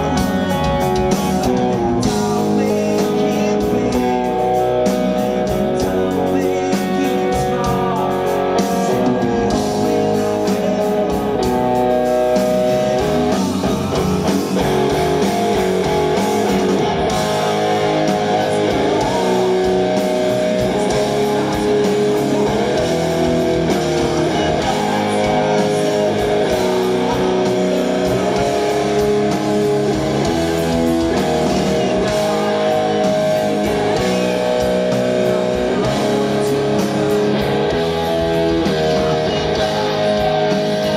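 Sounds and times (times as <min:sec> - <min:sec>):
electric guitars: 0:00.0 - 0:40.9
live rock band playing: 0:00.0 - 0:40.9.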